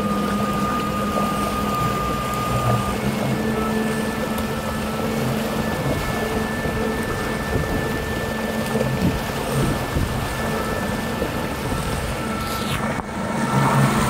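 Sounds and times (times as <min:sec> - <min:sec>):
boat motor hum: 0:00.0 - 0:14.0
water rushing: 0:00.0 - 0:14.0
wind: 0:00.0 - 0:14.0.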